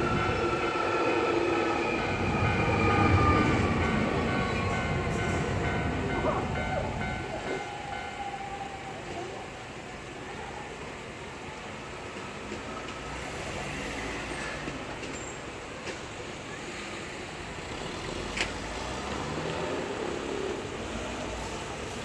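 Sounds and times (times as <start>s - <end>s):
road and rail traffic noise: 0.0s - 22.0s.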